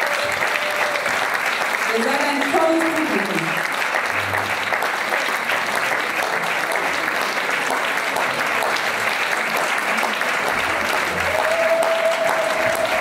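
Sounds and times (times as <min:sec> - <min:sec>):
audience applause: 0:00.0 - 0:13.0.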